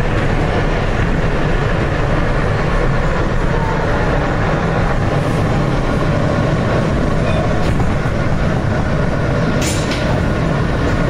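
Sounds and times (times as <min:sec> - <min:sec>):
subway train rumbling on rails: 0:00.0 - 0:11.0.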